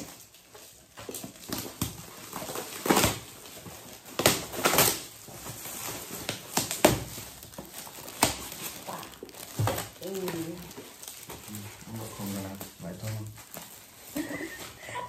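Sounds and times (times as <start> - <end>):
foil wrapping paper crinkling: 0.0 - 15.0
wrapping paper ripping: 0.0 - 15.0.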